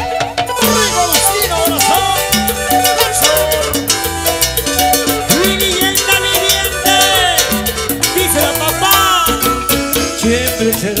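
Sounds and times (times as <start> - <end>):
live band playing latin dance music: 0.0 - 11.0.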